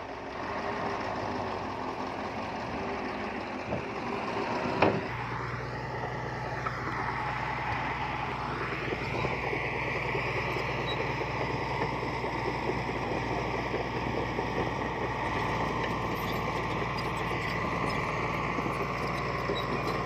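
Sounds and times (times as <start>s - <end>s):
heavy machinery diesel engine running: 0.0s - 20.0s.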